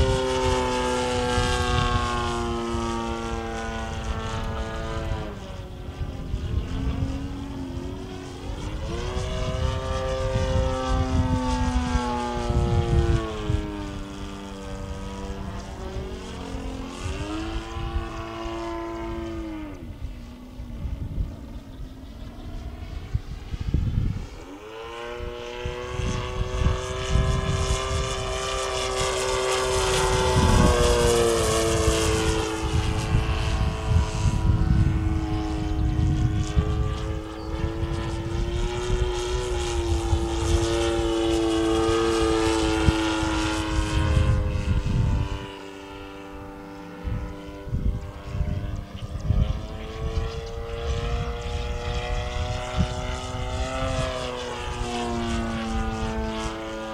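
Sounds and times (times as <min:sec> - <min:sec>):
model airplane motor buzzing: 0:00.0 - 0:56.9
wind rumbling on microphone: 0:00.0 - 0:56.9.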